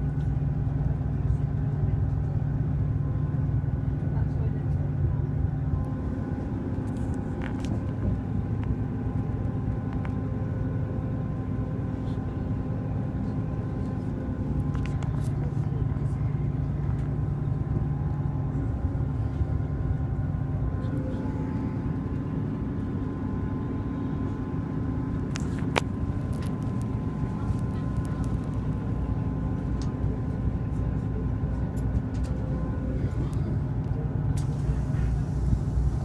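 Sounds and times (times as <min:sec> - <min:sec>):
diesel train rumbling: 0:00.0 - 0:36.0.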